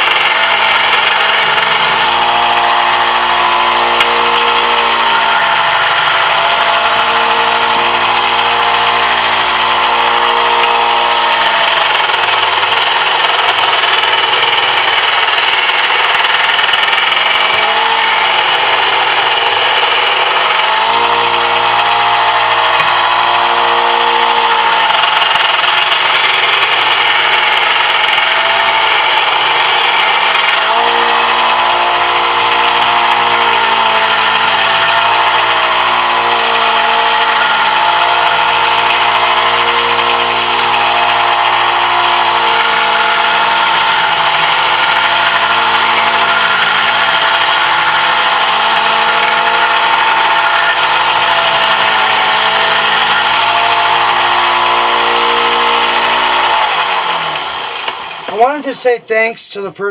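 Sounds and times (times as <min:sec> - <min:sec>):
power tool motor running: 0:00.0 - 0:58.4.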